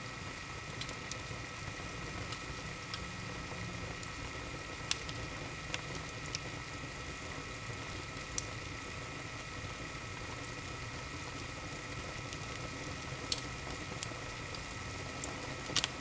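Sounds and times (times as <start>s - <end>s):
wood fire crackling: 0.3s - 16.0s.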